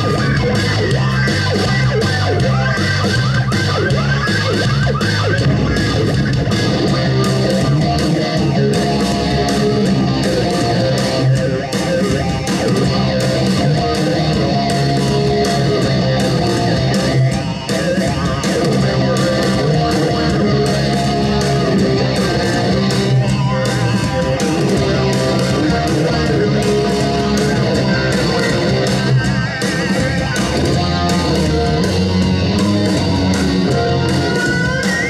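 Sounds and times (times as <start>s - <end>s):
rock music: 0.0s - 35.0s.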